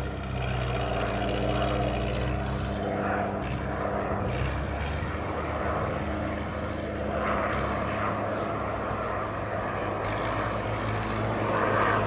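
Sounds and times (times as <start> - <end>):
turboprop plane droning past: 0.0 - 12.0.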